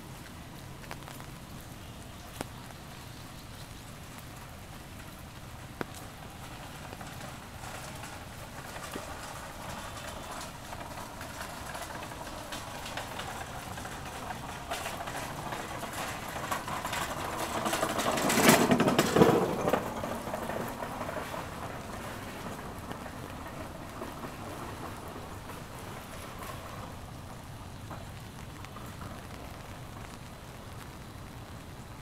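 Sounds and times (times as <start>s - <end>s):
steady rain: 0.0s - 32.0s
vehicle passing on wet street: 0.0s - 32.0s.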